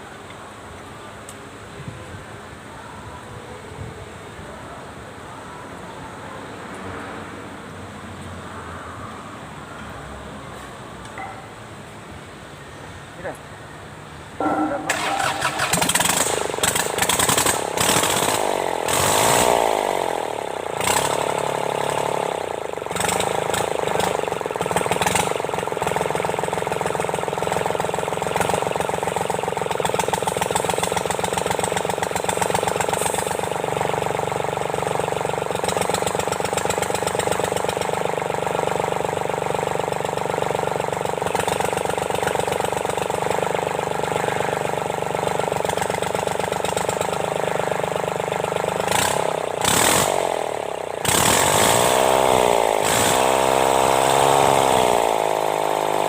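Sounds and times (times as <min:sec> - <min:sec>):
tractor diesel engine running: 0:11.0 - 0:56.0.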